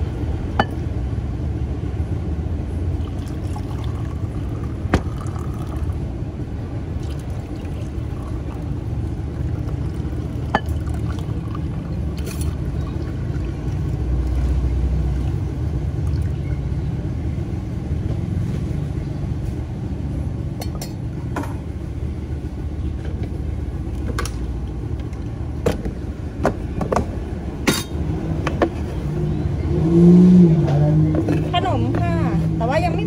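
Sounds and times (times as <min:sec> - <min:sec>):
low background rumble: 0:00.0 - 0:33.0.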